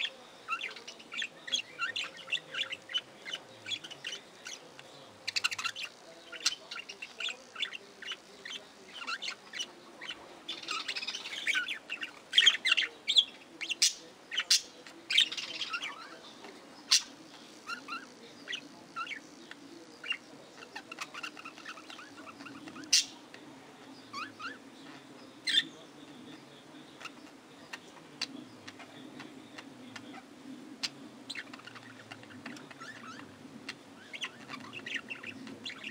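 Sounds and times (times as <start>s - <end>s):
budgerigars chirping and warbling: 0.0s - 35.9s.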